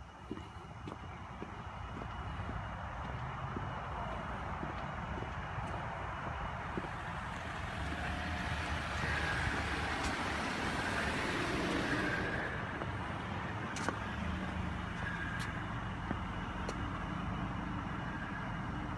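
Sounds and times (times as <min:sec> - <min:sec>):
vehicle engine rumble: 0:00.0 - 0:18.9.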